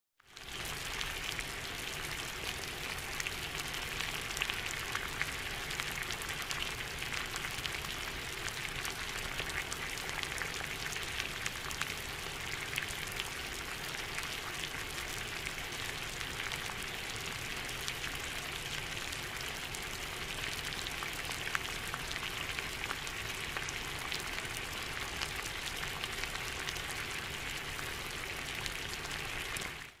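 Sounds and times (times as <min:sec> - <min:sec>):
water boiling: 0:00.2 - 0:30.0.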